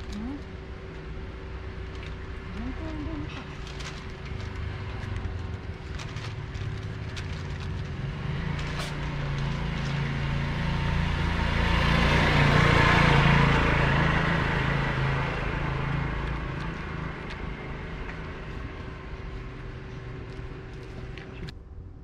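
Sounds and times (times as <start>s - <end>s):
vehicle passing by: 2.0s - 21.5s.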